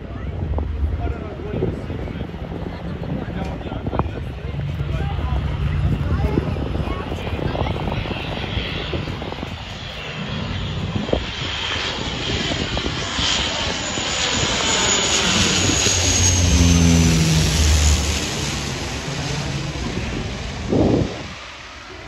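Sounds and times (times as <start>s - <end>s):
propeller drone: 0.0s - 22.0s
turbine whine: 0.0s - 22.0s.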